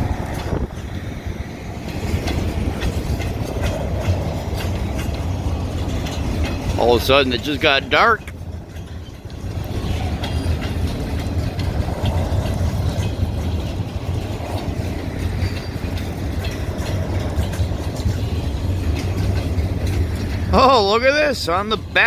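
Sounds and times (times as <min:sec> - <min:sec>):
freight train rumbling past: 0:00.0 - 0:22.0
wheels clicking over rail joints: 0:00.0 - 0:22.0.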